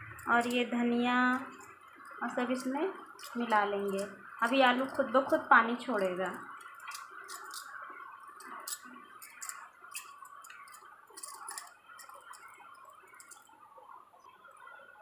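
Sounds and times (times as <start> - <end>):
wet hand mixing sounds: 0.0 - 14.8.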